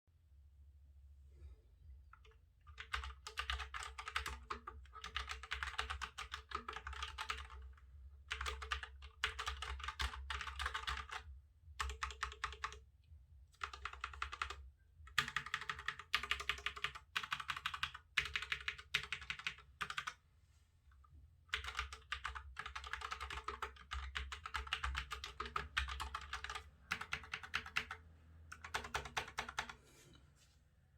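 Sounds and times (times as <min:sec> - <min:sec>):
mechanical keyboard typing: 0:02.2 - 0:11.2, 0:11.8 - 0:12.8, 0:13.6 - 0:20.2, 0:21.5 - 0:29.8.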